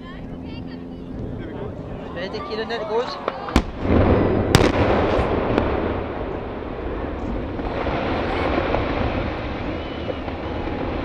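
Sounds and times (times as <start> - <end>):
chimney demolition rumble: 1.7 - 11.0.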